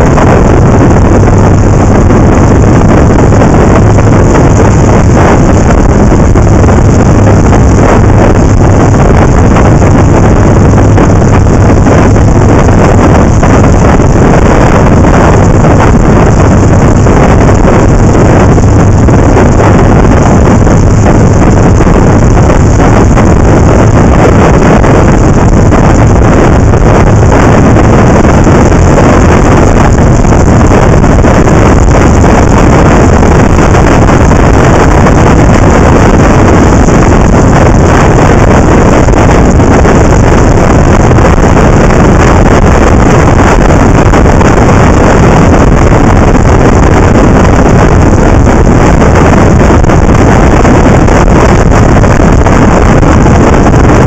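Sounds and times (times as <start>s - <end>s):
motorcycle engine drone: 0.0s - 54.0s
wind noise on microphone: 0.0s - 54.0s.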